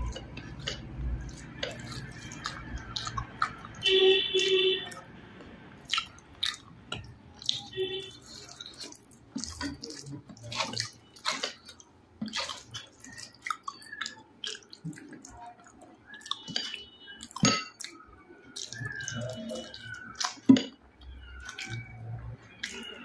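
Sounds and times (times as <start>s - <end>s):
wet chewing and smacking: 0.0s - 23.0s.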